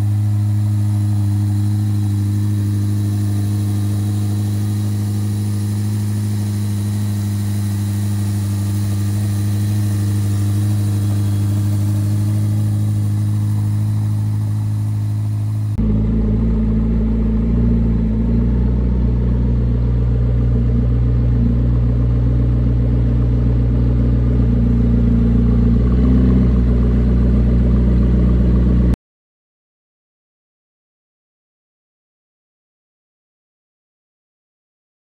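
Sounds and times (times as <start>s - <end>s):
sports car engine idling: 0.0s - 28.9s
deeper car engine idling: 0.0s - 29.0s.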